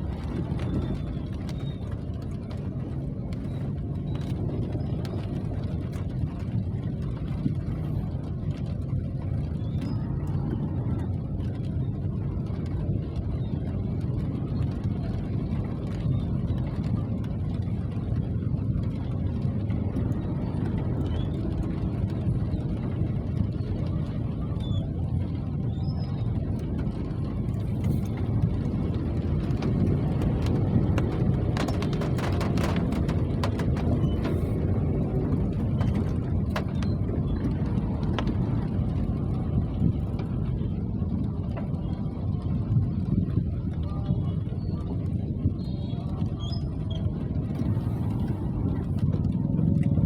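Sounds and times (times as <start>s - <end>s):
steady rain: 0.0s - 50.0s.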